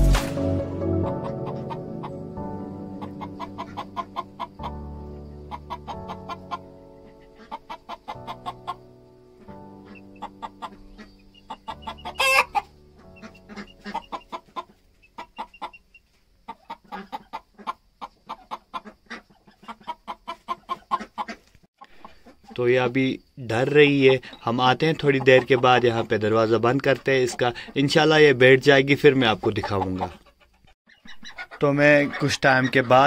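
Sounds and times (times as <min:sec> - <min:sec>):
hen clucking: 0:01.0 - 0:33.0.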